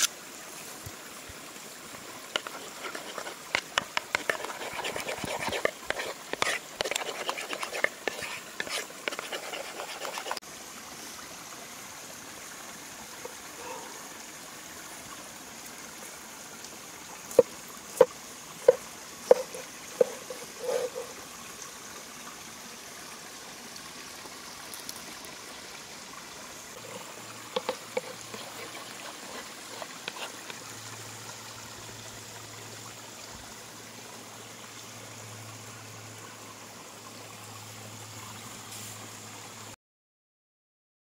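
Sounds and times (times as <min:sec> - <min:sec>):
flowing water: 0:00.0 - 0:39.8.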